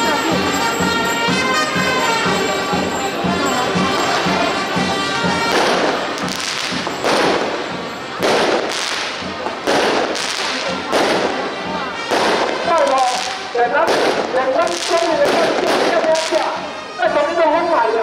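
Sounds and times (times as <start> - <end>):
firecrackers crackling: 0.0 - 17.4
band music with drum beat: 0.0 - 17.6.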